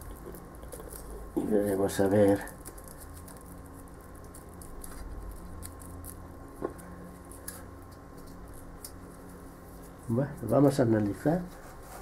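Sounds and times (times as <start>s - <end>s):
fingers rustling and ticking: 0.0s - 11.3s
steady low hum: 0.0s - 12.0s.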